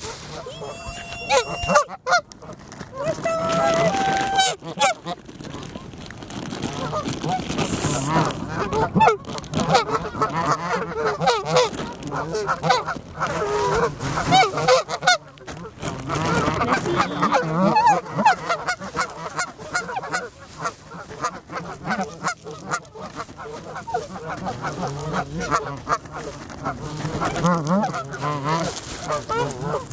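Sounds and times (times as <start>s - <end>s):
geese honking: 0.2s - 5.9s, 6.7s - 29.9s.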